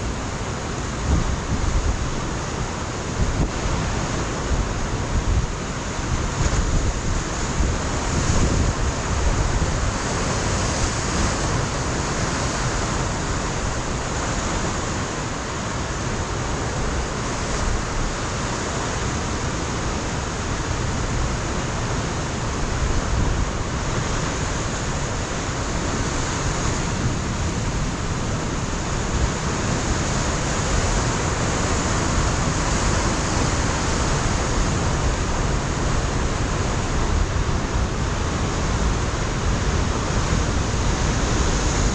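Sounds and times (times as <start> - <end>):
ocean surf breaking on rocks: 0.0 - 41.9
wind on microphone: 0.0 - 41.9.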